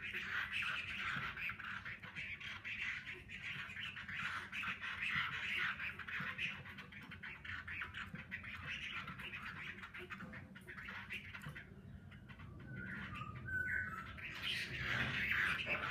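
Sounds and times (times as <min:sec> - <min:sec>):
bird singing fast song: 0:00.0 - 0:15.9.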